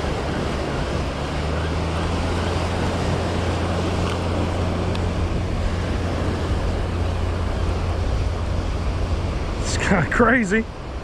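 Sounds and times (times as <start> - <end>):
propeller engine idling: 0.0 - 11.0
surf washing: 0.0 - 11.0.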